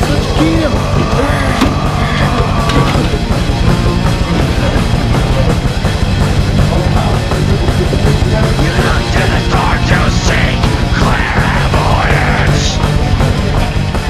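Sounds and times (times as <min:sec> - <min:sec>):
pounding drums: 0:00.0 - 0:13.6
heavy rock music: 0:00.0 - 0:14.0.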